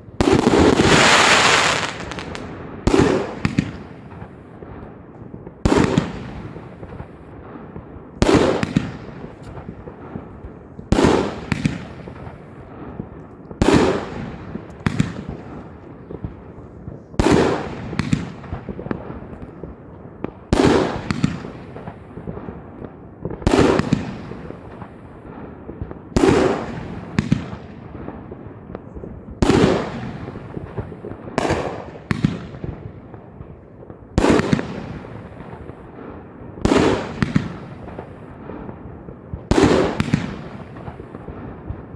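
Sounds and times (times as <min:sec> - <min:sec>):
firework bangs: 0:00.0 - 0:41.9.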